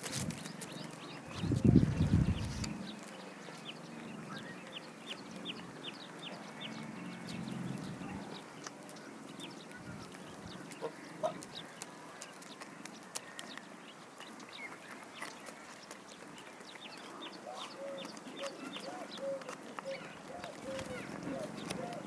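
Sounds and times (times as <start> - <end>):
birds chirping: 0.0 - 22.0
low clucking bird calls: 0.0 - 22.0.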